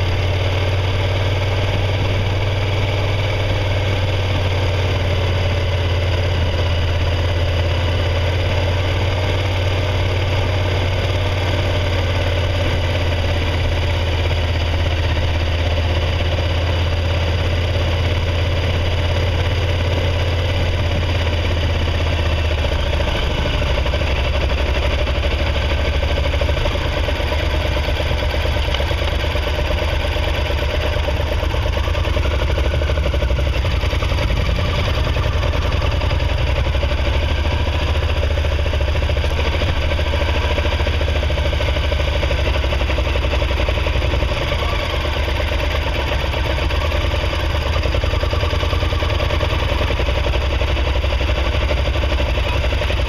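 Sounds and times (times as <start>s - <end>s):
motorcycle engine running steadily: 0.0s - 53.0s.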